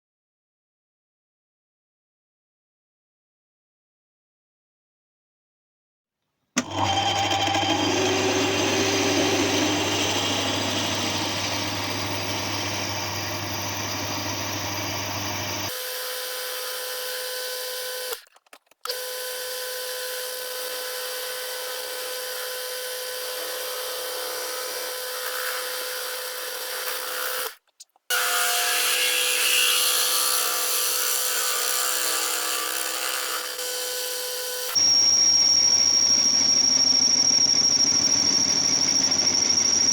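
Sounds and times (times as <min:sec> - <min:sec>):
power tool running: 0:06.6 - 0:39.9.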